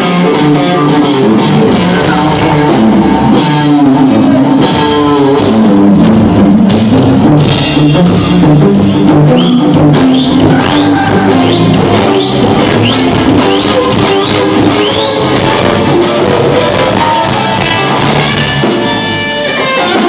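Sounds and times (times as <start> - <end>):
drum kit with cymbals: 0.0 - 20.0
electric guitar: 0.0 - 20.0.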